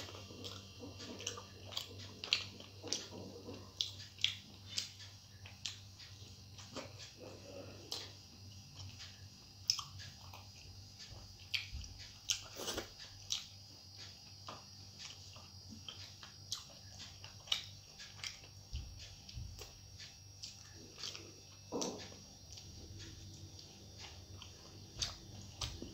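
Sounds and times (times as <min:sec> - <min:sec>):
person chewing with wet mouth sounds: 0:00.0 - 0:25.9.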